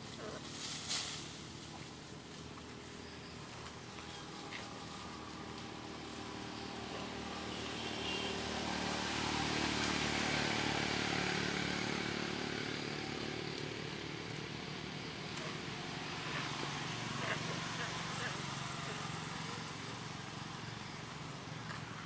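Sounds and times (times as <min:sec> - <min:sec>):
vehicle engine passing: 0:00.0 - 0:22.0.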